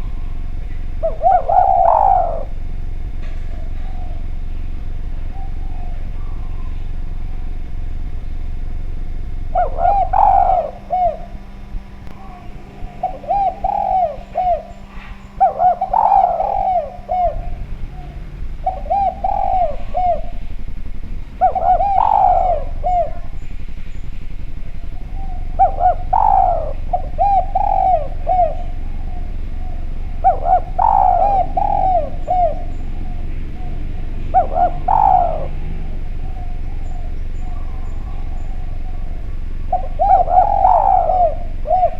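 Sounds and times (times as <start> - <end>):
dove cooing: 0.0 - 41.9
low rumble: 0.0 - 41.9.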